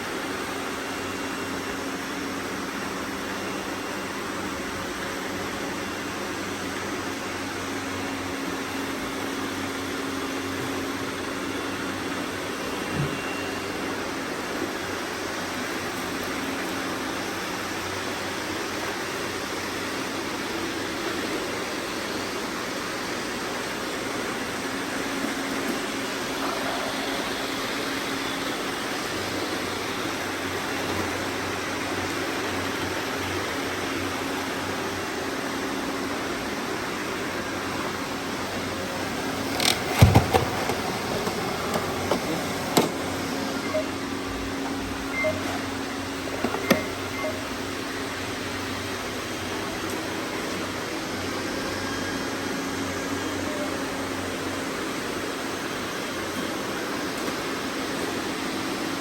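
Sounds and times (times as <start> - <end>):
robot vacuum cleaners whirring: 0.0 - 59.0.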